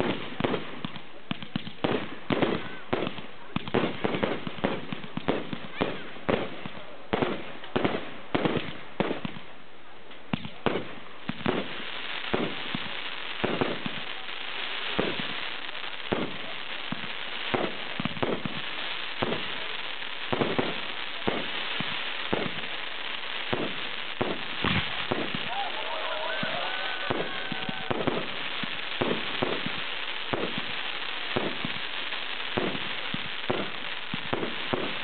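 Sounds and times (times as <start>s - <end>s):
fireworks bangs: 0.0s - 9.6s, 10.2s - 35.0s
crackling hiss: 0.0s - 35.0s.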